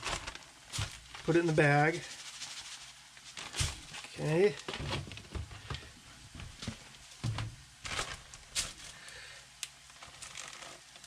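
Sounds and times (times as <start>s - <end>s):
plastic rustles and clicks: 0.0s - 11.0s.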